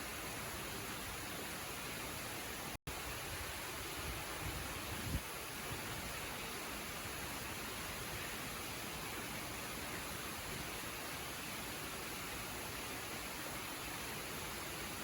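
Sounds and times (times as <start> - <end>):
waterfall hissing: 0.0 - 15.0.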